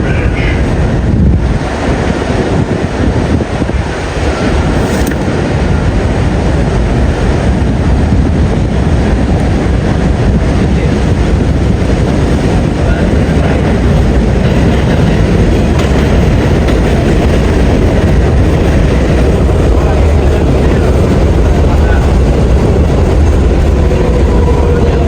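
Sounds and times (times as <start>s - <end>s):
subway train wheels rumbling on rail: 0.0s - 25.0s.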